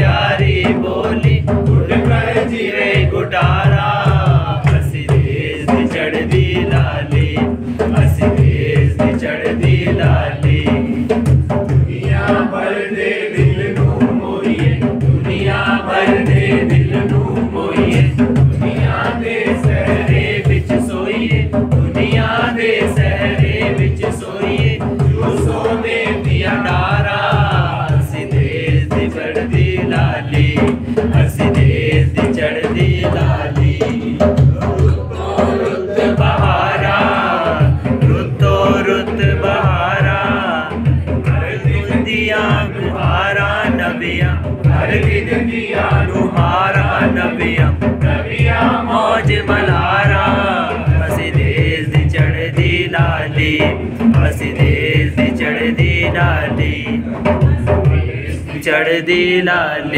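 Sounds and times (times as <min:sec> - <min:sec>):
fast drum beat: 0:00.0 - 0:59.9
upbeat song: 0:00.0 - 0:59.9
voices chanting: 0:00.0 - 0:59.9.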